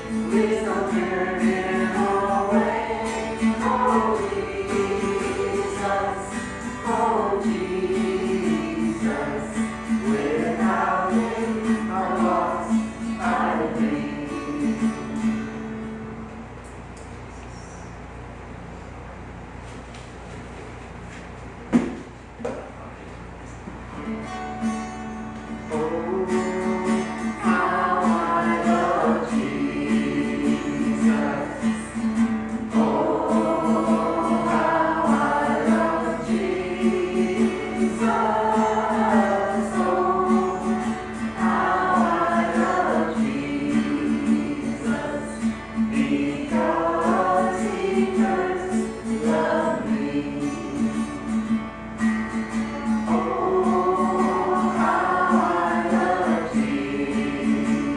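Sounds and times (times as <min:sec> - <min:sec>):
group singing gospel song: 0:00.0 - 0:15.5, 0:25.7 - 0:57.9.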